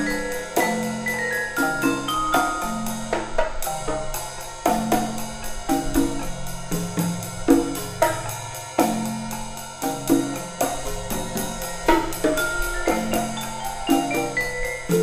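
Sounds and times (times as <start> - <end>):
high mallet notes: 0.0 - 15.0
marimba bass notes: 0.0 - 15.0
sharp drum strokes: 0.0 - 15.0.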